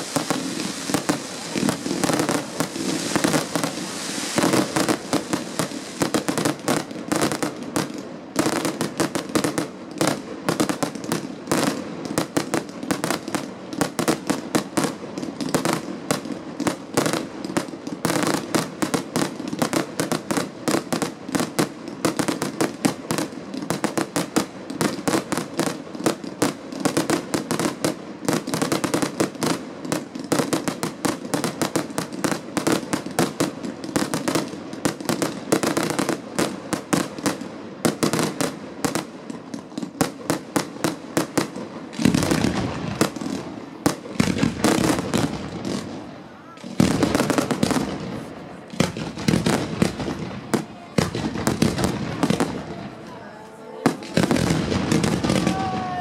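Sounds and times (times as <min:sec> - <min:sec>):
fireworks bangs and cracks: 0:00.0 - 0:56.0.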